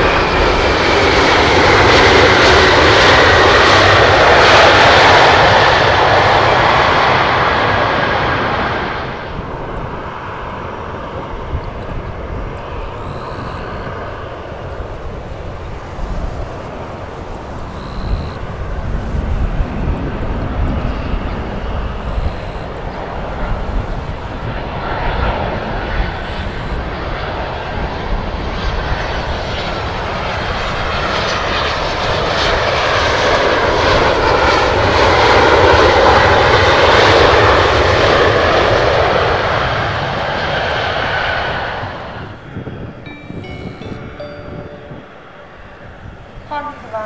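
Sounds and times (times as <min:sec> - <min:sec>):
jet engines landing: 0:00.0 - 0:47.0
wind rumble on microphone: 0:00.0 - 0:47.0.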